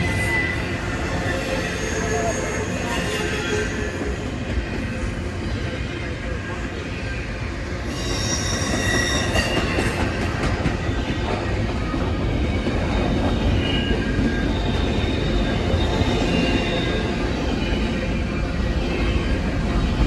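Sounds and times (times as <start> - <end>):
train wheels rumbling: 0.0 - 20.0
wheels squealing on rails: 0.0 - 20.0.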